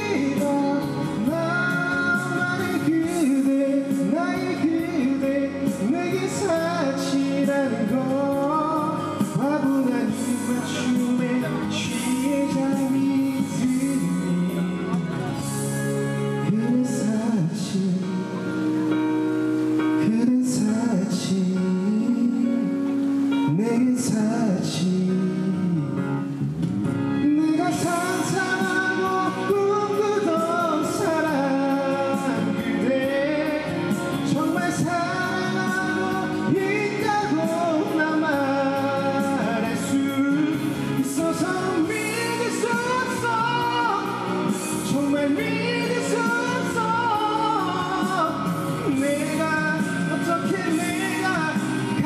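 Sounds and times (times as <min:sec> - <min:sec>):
person singing: 0:00.0 - 0:19.2, 0:19.8 - 0:52.0
instrumental accompaniment: 0:00.0 - 0:52.0.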